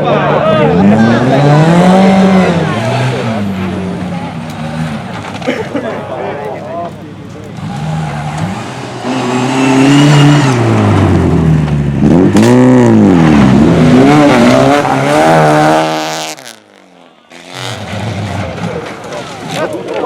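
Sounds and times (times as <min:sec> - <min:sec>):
race car engine revving: 0:00.5 - 0:06.1, 0:06.8 - 0:20.0.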